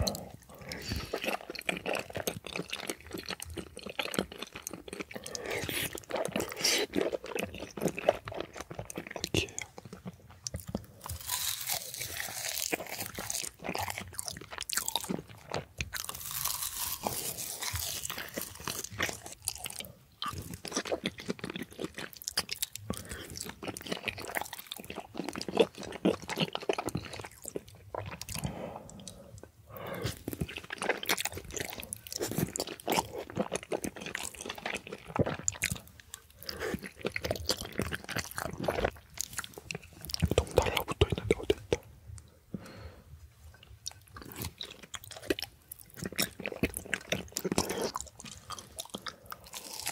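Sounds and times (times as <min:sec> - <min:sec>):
person chewing rice cakes: 0:00.0 - 0:42.9, 0:43.5 - 0:49.9.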